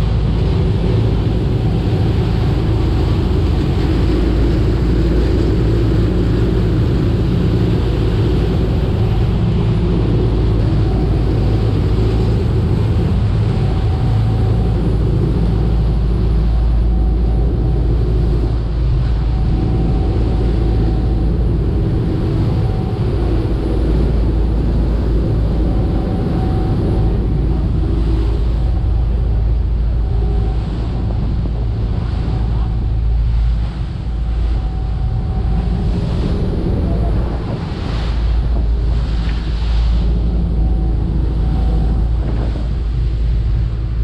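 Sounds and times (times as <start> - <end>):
boat engines droning: 0.0 - 44.0
rush of water from wake: 0.0 - 44.0.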